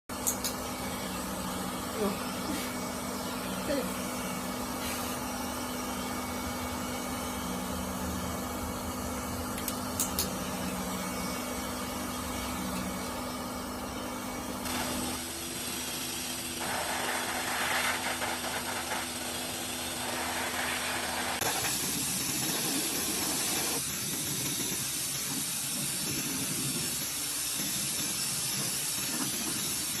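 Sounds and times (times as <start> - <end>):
pet dryer blowing air: 0.2 - 30.0.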